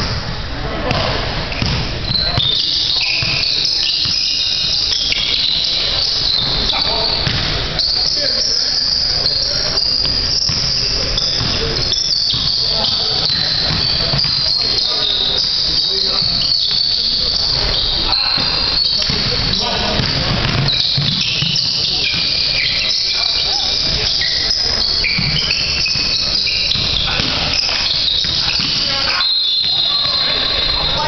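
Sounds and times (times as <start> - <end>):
basketball bouncing: 0.0 - 8.2, 9.2 - 31.0
sneakers squeaking on hardwood floor: 0.9 - 31.0.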